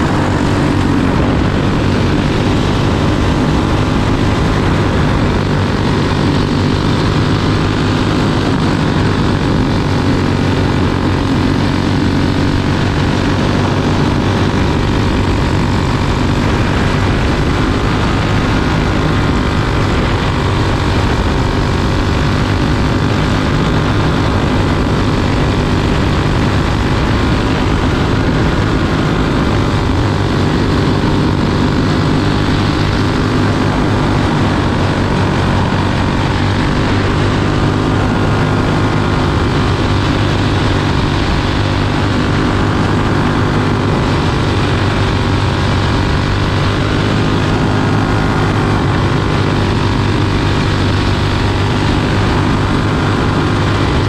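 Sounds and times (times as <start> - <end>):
kart engine running hard: 0.0 - 54.0.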